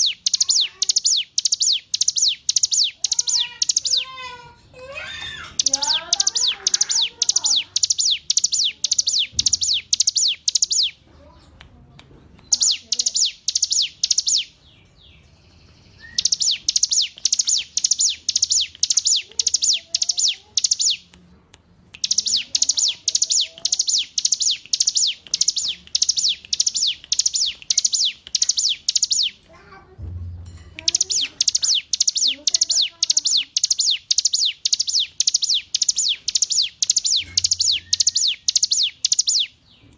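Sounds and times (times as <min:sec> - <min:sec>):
bird singing high repeated notes: 0:00.0 - 0:04.1, 0:05.3 - 0:11.0, 0:12.5 - 0:21.1, 0:22.0 - 0:29.4, 0:30.5 - 0:39.6.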